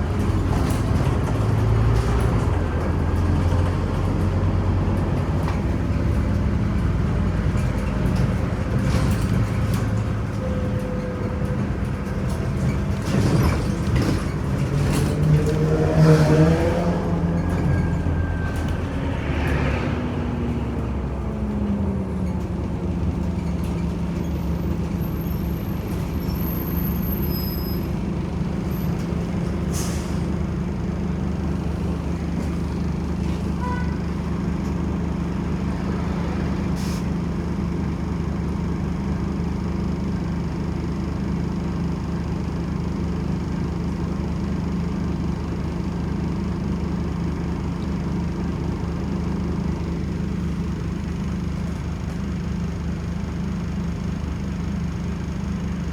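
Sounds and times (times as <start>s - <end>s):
bus engine running: 0.0s - 55.9s.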